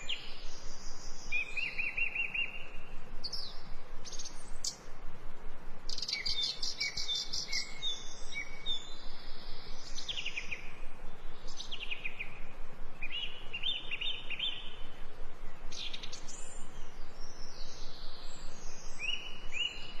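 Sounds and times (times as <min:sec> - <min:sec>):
small birds chirping: 0:00.0 - 0:05.0, 0:05.8 - 0:20.0
steady background hiss: 0:00.0 - 0:20.0.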